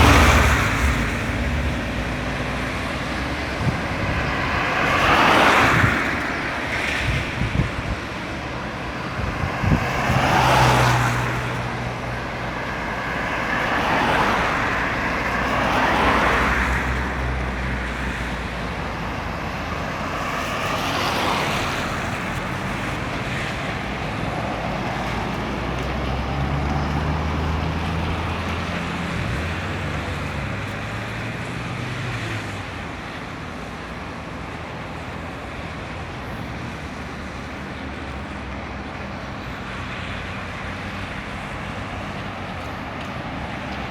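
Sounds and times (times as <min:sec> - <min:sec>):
cars passing: 0:00.0 - 0:43.9.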